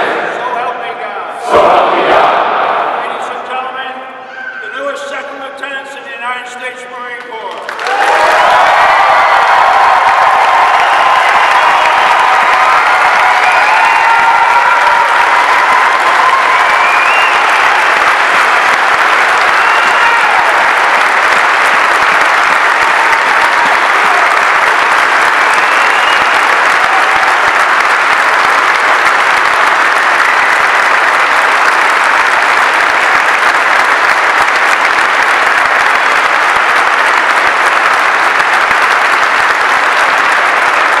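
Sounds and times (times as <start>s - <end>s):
large crowd applauding: 0.0s - 0.7s, 7.0s - 41.0s.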